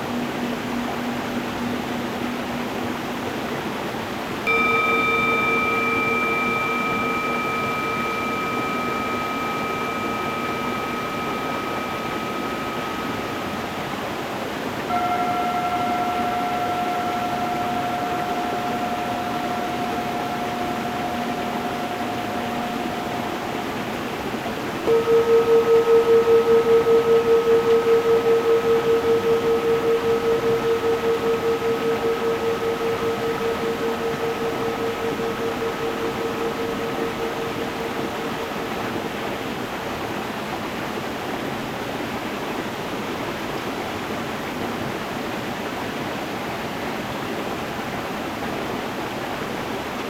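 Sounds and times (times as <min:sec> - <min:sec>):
singing bowls ringing: 0:00.0 - 0:41.1
stream running: 0:00.0 - 0:50.0.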